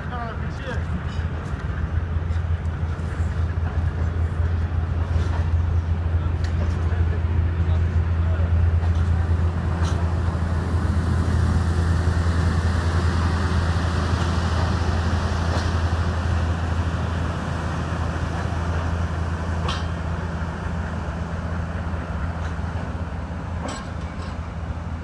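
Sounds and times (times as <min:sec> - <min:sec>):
low diesel drone: 0:00.0 - 0:25.0.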